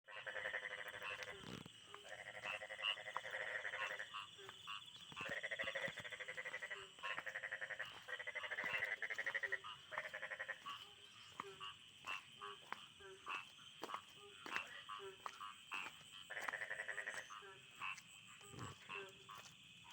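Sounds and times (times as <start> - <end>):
frogs calling in trills: 0.1 - 19.9.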